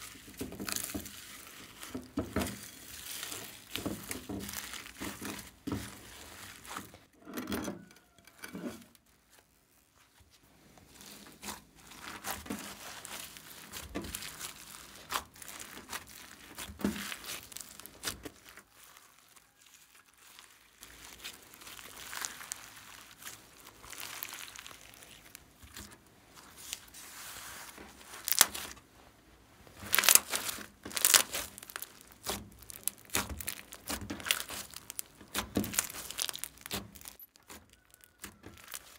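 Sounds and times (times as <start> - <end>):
slime squishing and crackling: 0.0 - 7.1, 10.8 - 28.8, 29.7 - 38.9.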